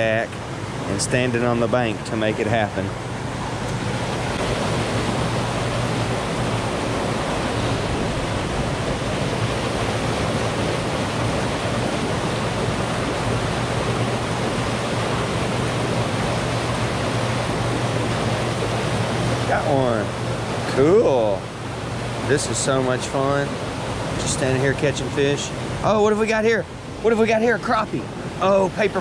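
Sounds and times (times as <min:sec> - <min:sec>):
rushing churning water: 0:00.0 - 0:29.0
steady low hum: 0:00.0 - 0:29.0.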